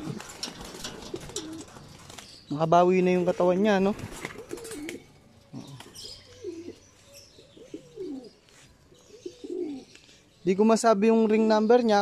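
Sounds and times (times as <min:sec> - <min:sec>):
pigeons cooing: 0:00.0 - 0:10.3.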